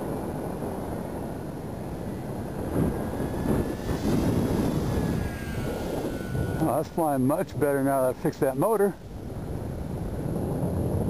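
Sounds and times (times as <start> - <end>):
model airplane engine droning: 0.0 - 11.0
wind buffeting microphone: 0.0 - 11.0.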